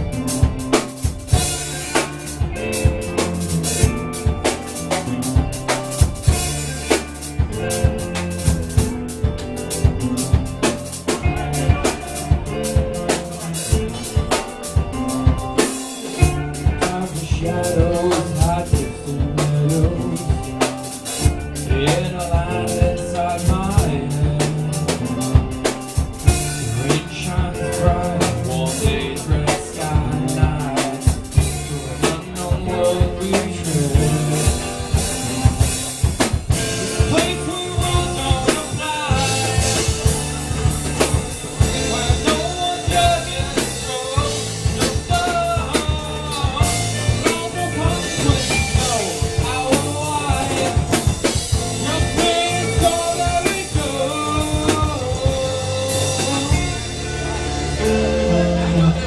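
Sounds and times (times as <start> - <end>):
person singing: 0.0 - 35.7, 36.5 - 59.0
bass guitar: 0.0 - 59.0
drum kit beat: 0.0 - 59.0
electric guitar: 0.0 - 59.0.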